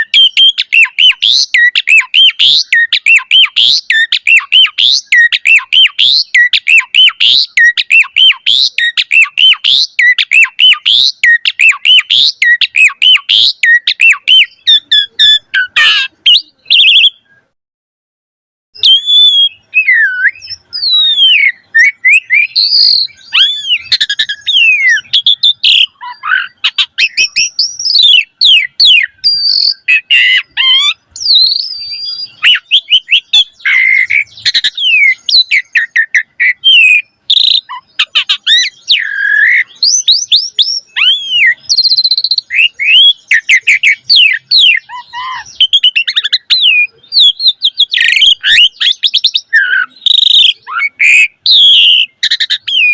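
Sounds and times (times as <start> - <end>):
starling singing: 0.0 - 17.6, 18.8 - 52.9.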